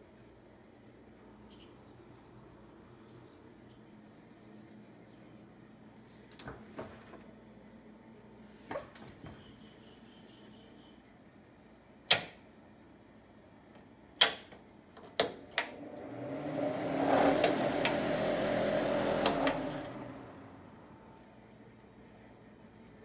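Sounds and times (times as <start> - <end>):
range hood fan whirring: 0.0 - 23.0.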